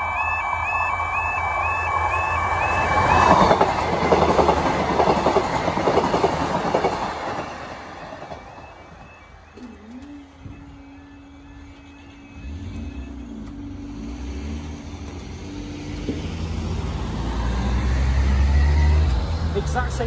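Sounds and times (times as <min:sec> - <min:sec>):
warbling crossing alarm: 0:00.0 - 0:19.3.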